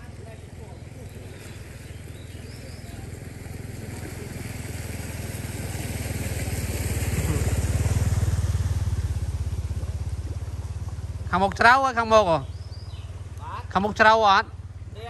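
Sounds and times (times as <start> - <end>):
small engine passing: 0.0 - 15.0.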